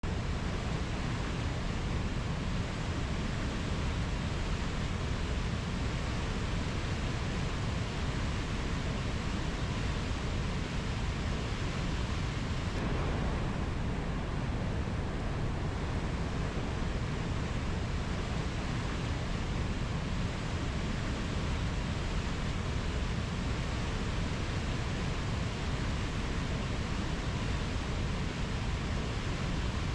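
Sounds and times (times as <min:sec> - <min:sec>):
river water rushing: 0:00.1 - 0:29.9.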